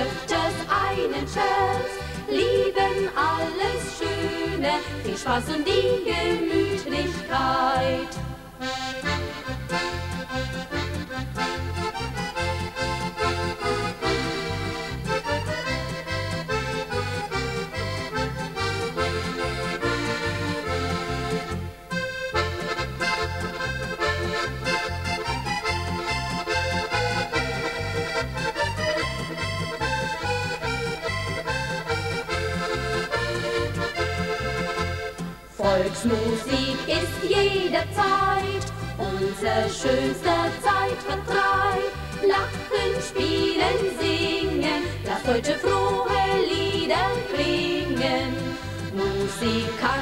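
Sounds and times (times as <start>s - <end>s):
cheerful folk music melody: 0.0s - 50.0s.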